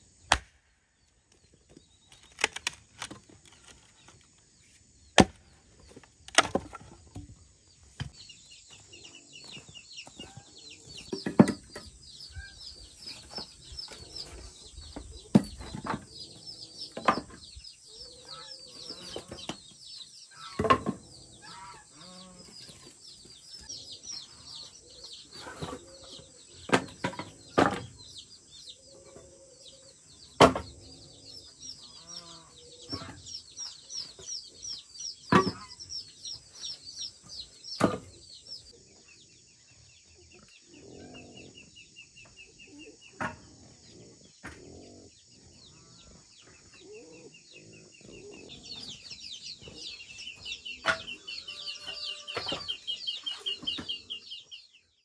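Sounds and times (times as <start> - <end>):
chickens clucking: 5.8 - 54.6.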